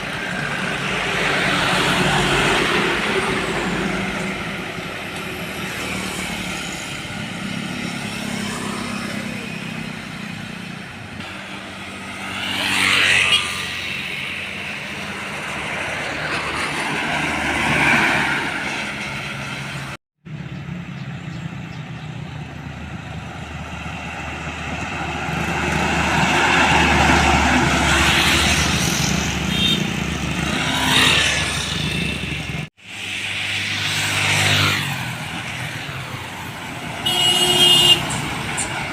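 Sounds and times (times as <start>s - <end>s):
heavy trucks passing: 0.0s - 38.9s.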